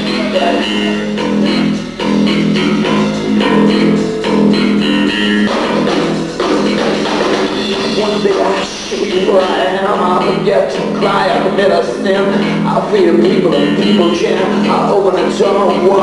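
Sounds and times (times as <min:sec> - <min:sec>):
electric guitars: 0:00.0 - 0:16.0
rock band playing live: 0:00.0 - 0:16.0.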